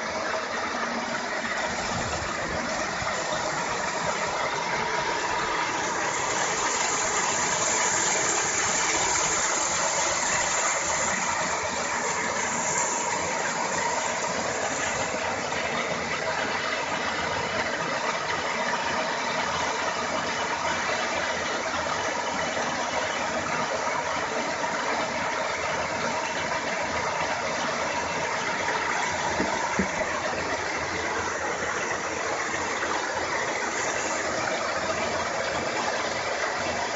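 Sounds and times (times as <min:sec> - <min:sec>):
mechanical motor hum: 0:00.0 - 0:36.9
paddle wheels splashing water: 0:00.0 - 0:36.9.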